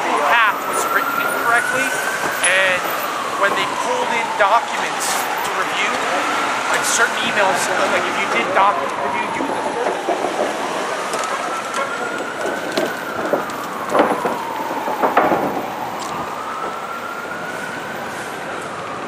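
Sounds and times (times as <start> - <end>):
city traffic noise: 0.0 - 19.0
fire truck siren wailing: 0.0 - 19.0.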